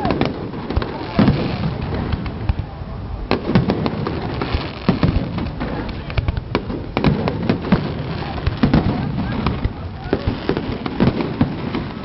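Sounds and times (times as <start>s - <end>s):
fireworks bangs and cracks: 0.0s - 12.0s.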